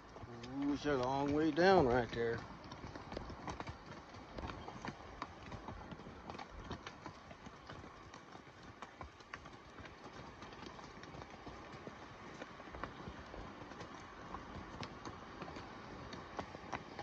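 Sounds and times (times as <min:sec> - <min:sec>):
horse hooves clopping on stone: 0:00.0 - 0:17.0.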